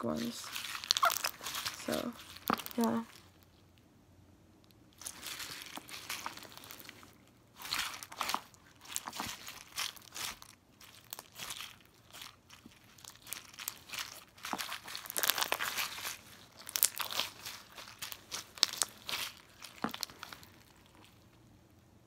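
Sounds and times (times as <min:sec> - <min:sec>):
crunchy slime crackling: 0:00.0 - 0:03.7, 0:04.6 - 0:21.6.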